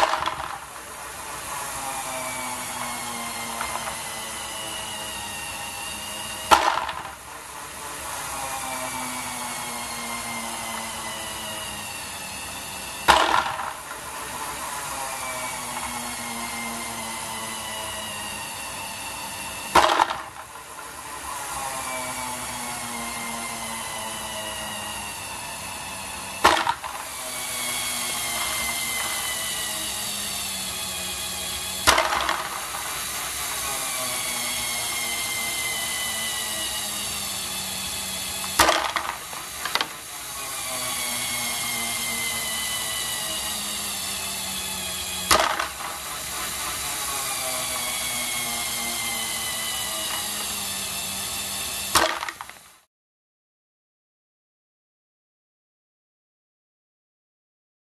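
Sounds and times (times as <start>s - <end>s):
sharp snap and rattling plastic balls: 0.0s - 9.0s, 9.6s - 22.5s, 25.9s - 52.9s
motor and gears whining: 0.0s - 52.9s.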